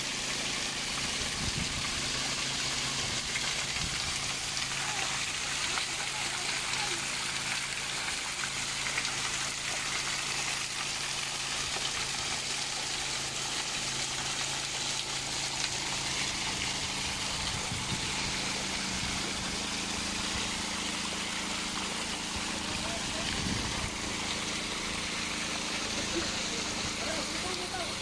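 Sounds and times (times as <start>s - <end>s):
waterfall splashing into pool: 0.0s - 28.0s.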